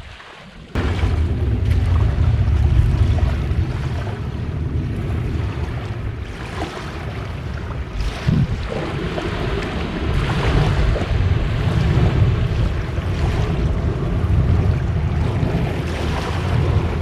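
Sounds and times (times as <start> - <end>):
small waves washing onto beach: 0.0 - 17.0
wind buffeting microphone: 0.0 - 17.0.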